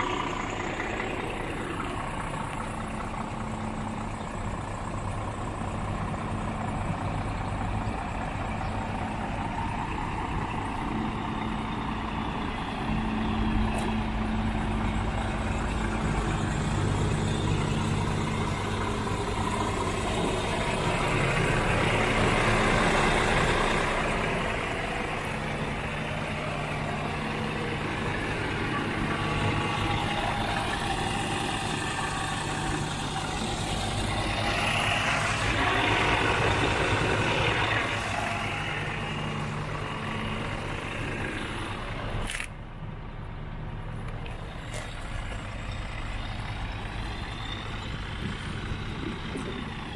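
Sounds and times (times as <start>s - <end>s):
diesel truck idling: 0.0s - 49.9s.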